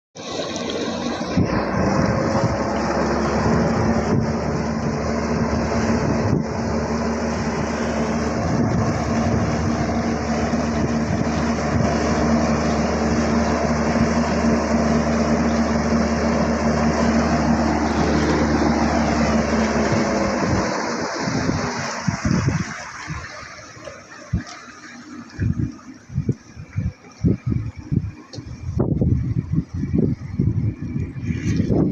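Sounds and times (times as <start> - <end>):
bow thruster humming and churning: 0.2 - 31.9.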